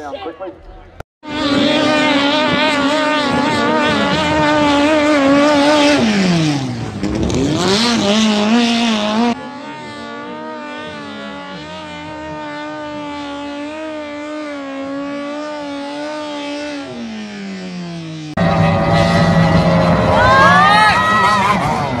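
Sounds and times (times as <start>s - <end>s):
speedboat engine at high revs: 1.2s - 22.0s.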